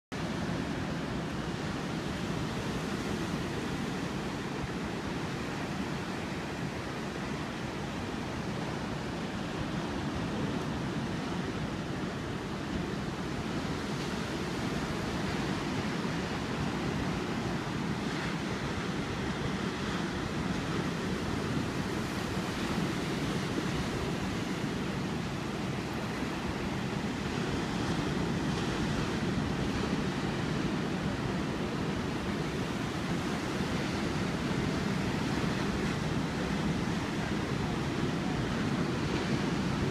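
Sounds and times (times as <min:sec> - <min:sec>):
waves breaking on rocky shore: 0:00.2 - 0:39.9.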